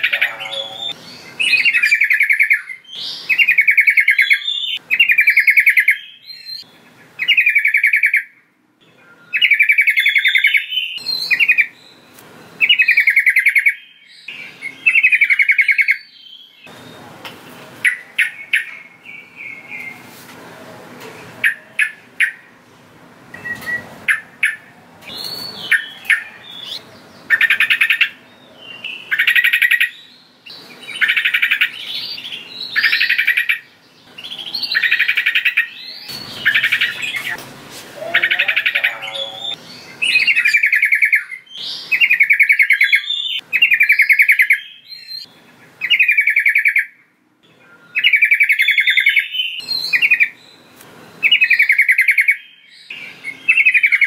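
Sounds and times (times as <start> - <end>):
bulbul singing: 0.0 - 17.2, 23.3 - 37.4, 38.0 - 54.0.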